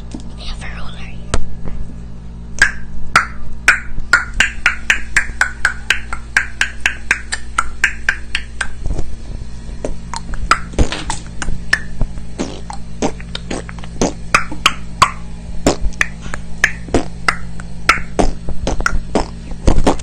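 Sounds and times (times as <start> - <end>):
low hum: 0.0 - 20.0
person making mouth clicks: 2.6 - 8.8, 10.1 - 20.0.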